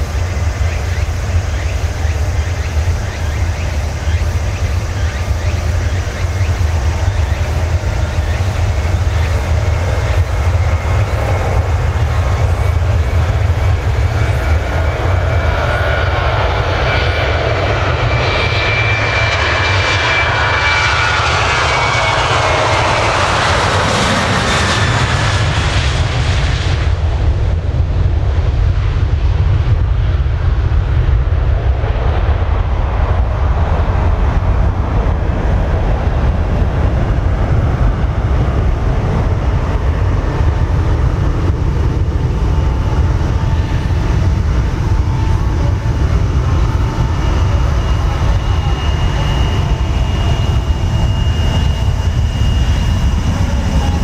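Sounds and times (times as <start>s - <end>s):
jet engines at takeoff: 0.0s - 54.0s.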